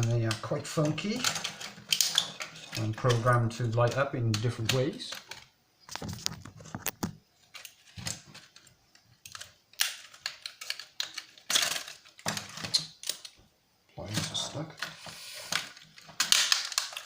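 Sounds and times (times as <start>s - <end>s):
plastic parts clicking and cracking: 0.0s - 13.4s, 14.0s - 17.0s.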